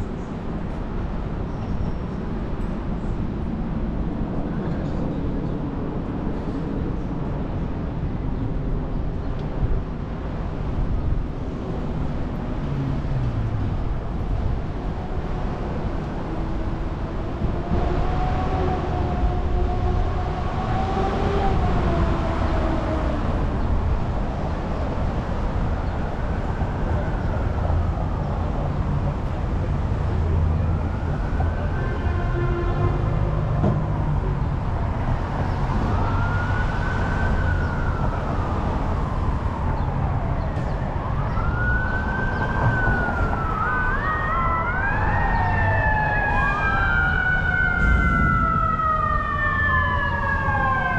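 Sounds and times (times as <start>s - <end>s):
city traffic noise: 0.0s - 50.9s
passing vehicle whine: 9.6s - 50.9s.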